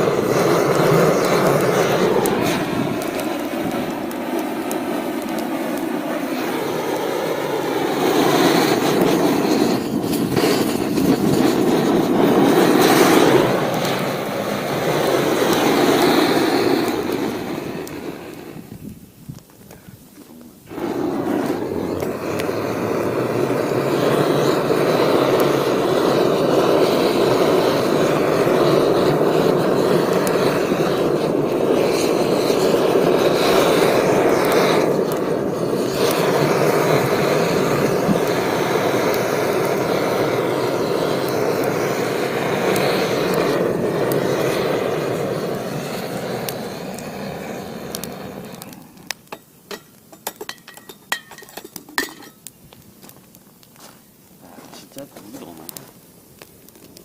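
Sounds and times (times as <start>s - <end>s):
gas torch flame jet: 0.0s - 57.0s.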